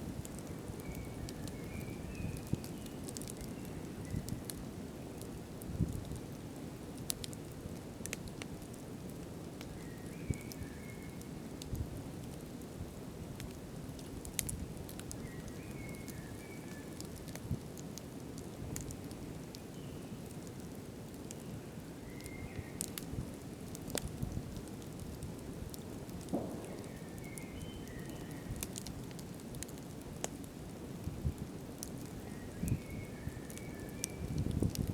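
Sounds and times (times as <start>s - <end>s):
campfire crackles and pops: 0.0s - 34.9s
rustle of flames: 0.0s - 34.9s.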